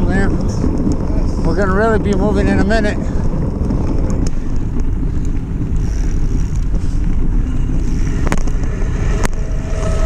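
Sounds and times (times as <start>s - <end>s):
tyres rolling on dirt trail: 0.0s - 10.0s
wind buffeting microphone: 0.0s - 10.0s.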